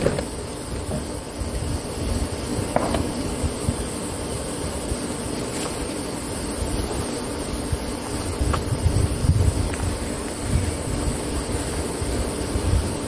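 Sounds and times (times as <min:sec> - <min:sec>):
wind buffeting microphone: 0:00.0 - 0:05.2, 0:05.8 - 0:13.0.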